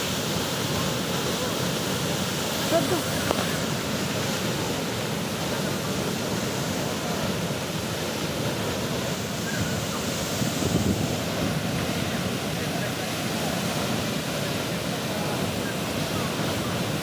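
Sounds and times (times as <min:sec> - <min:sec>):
water gushing onto road: 0:00.0 - 0:17.0.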